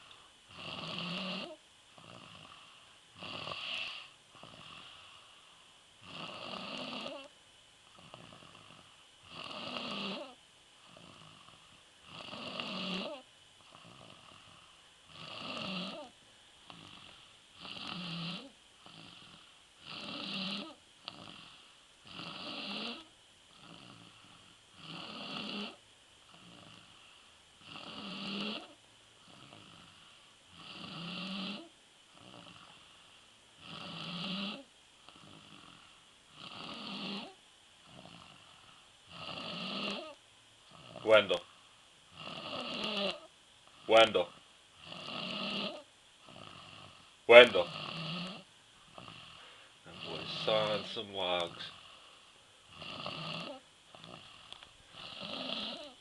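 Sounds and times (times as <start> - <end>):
boy snoring: 0.0 - 5.4, 6.0 - 7.3, 7.9 - 33.0, 33.6 - 41.4, 42.1 - 56.0
quiet breaths: 0.0 - 56.0.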